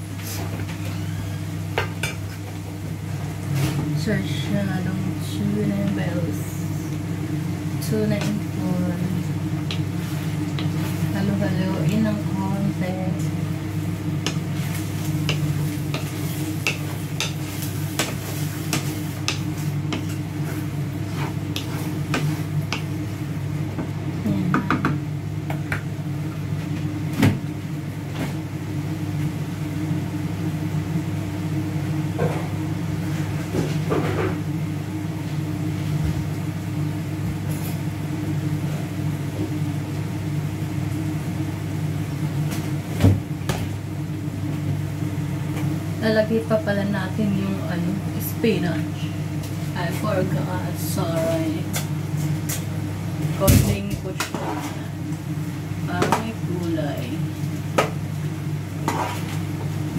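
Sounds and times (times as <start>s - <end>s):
low motor hum: 0.0s - 59.9s.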